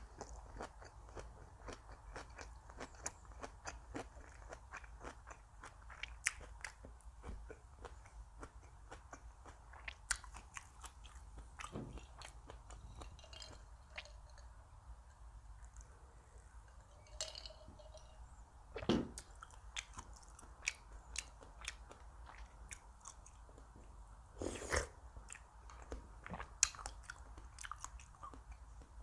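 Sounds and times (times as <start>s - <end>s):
wet chewing clicks: 0.0s - 14.5s, 18.8s - 23.9s, 24.5s - 29.0s.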